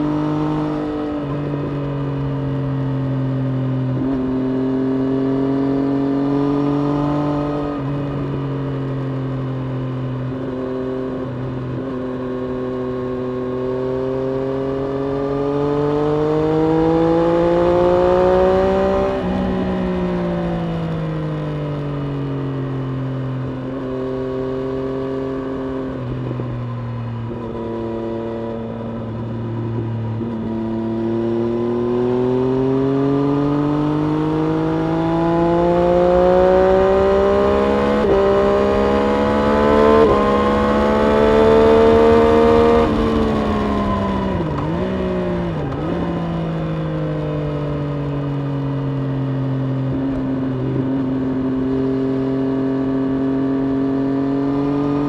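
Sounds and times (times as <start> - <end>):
motorcycle engine revving: 9.9 - 55.0.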